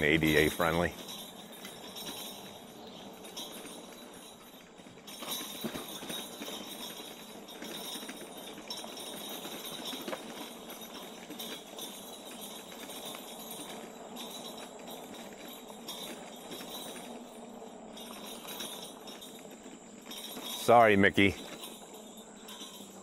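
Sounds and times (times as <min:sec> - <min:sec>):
bells jingling and clattering: 0:00.0 - 0:23.0.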